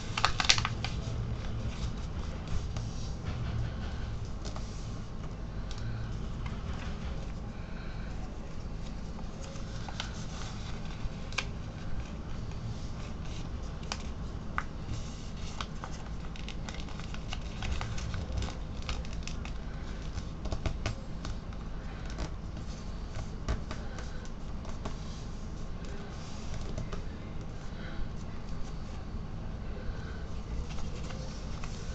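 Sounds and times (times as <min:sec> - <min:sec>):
paper rustling and crinkling: 0:00.0 - 0:29.1, 0:30.3 - 0:31.9
steady low hum: 0:00.0 - 0:31.9.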